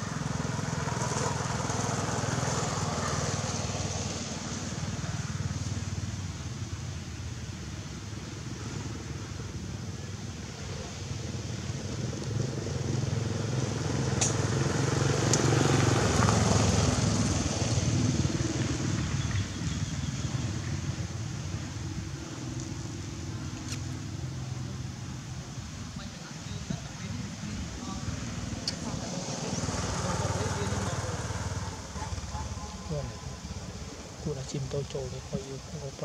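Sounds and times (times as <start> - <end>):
vehicle engine passing by: 0.0 - 6.1, 10.6 - 25.6, 26.4 - 36.0.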